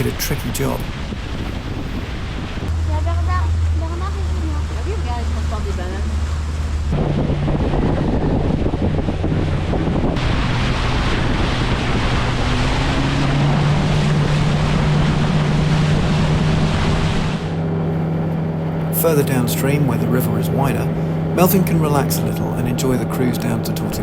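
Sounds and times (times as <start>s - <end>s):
outboard motor humming: 0.0s - 24.0s
water rushing along hull: 0.0s - 24.0s
wind on microphone: 0.0s - 24.0s.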